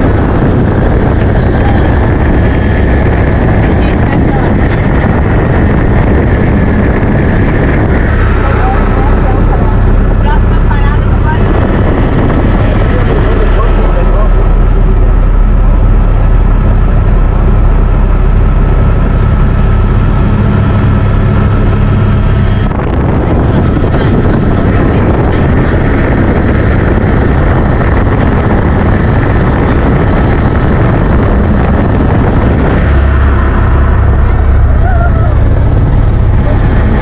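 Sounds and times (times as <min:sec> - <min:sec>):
helicopter engine and rotor drone: 0:00.0 - 0:37.0
wind noise on microphone: 0:00.0 - 0:37.0.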